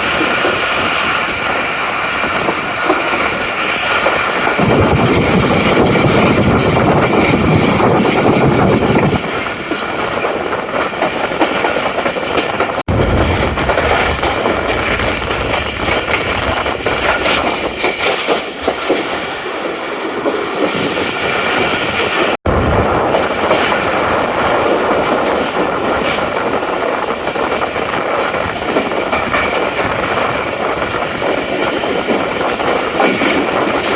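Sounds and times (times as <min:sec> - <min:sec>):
train rumbling and rattling on rails: 0:00.0 - 0:33.9.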